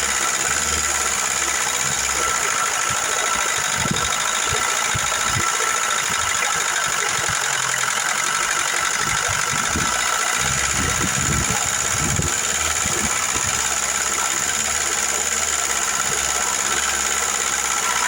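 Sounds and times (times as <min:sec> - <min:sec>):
car engine idling: 0:00.0 - 0:18.0
hydraulic lifters ticking: 0:00.0 - 0:18.0.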